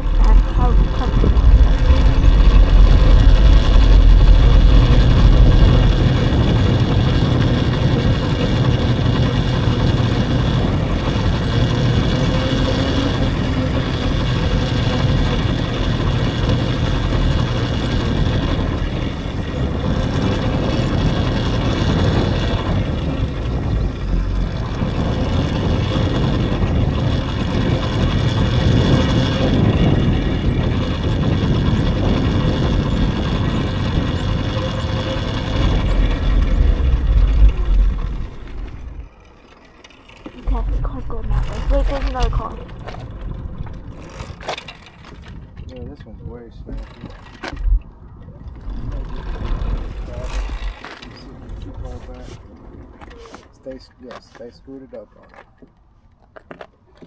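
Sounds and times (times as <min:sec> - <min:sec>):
electric motor whine: 0:00.0 - 0:45.8, 0:46.7 - 0:53.4
rushing riding noise: 0:00.0 - 0:55.5.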